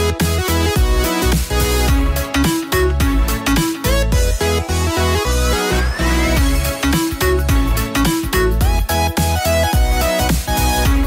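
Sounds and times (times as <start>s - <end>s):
electronic music with pulsing bass: 0.0s - 11.0s.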